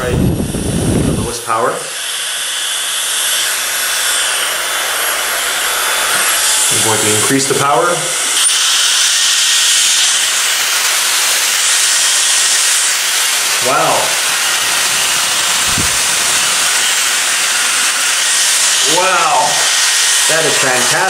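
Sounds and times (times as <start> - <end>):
hair dryer blowing air: 0.0 - 21.0.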